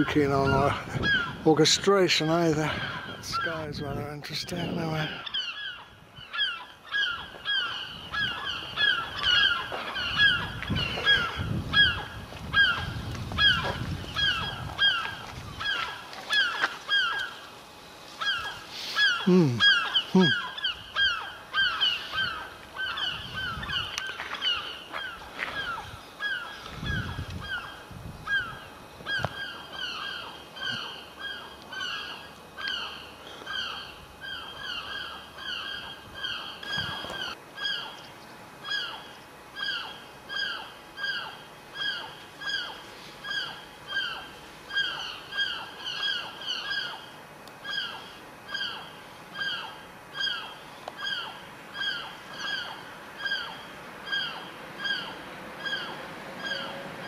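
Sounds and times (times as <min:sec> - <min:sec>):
gulls calling: 0:00.0 - 0:57.0.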